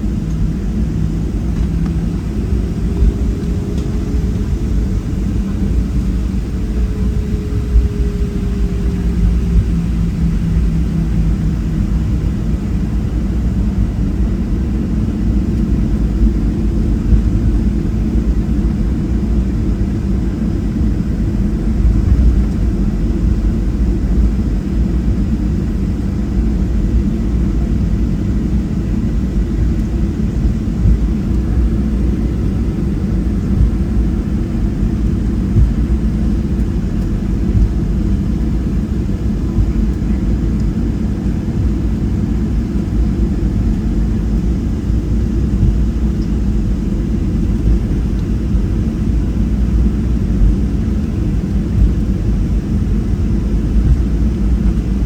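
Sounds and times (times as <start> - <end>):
airplane taxiing rumble: 0.0 - 55.0.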